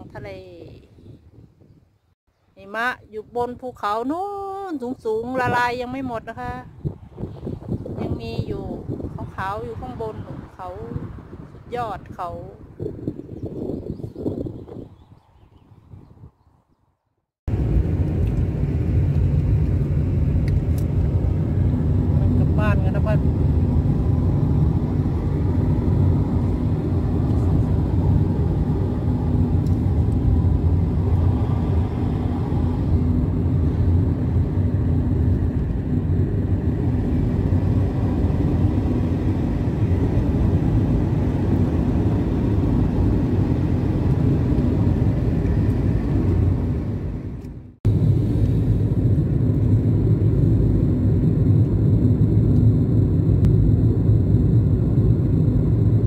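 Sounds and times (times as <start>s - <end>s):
car road and engine noise: 6.8s - 13.8s, 17.5s - 56.0s.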